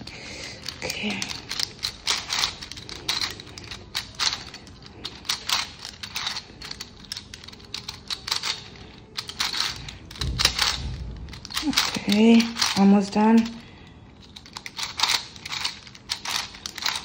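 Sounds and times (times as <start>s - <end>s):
plastic puzzle clacking: 0.0s - 17.0s.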